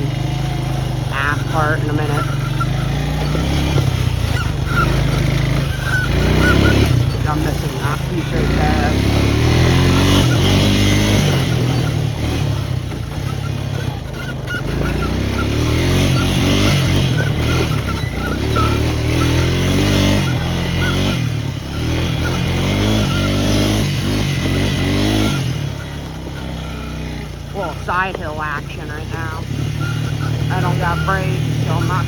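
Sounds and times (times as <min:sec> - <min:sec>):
four-wheeler engine revving: 0:00.0 - 0:32.0.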